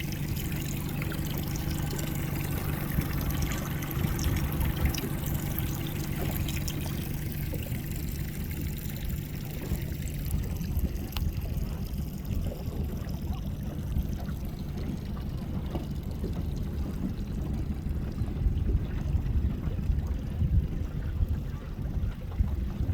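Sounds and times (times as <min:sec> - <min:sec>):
low rumble: 0:00.0 - 0:22.9
ocean water lapping: 0:00.0 - 0:22.9.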